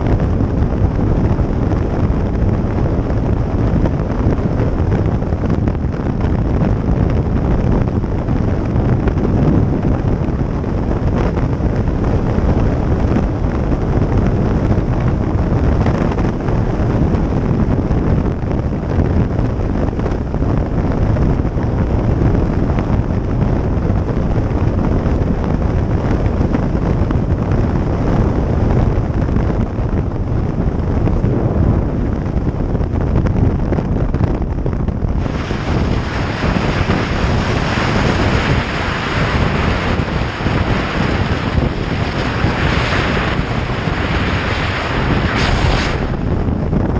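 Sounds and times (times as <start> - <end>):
heavy wind noise on microphone: 0.0 - 46.9
motorcycle riding rush: 0.0 - 46.9.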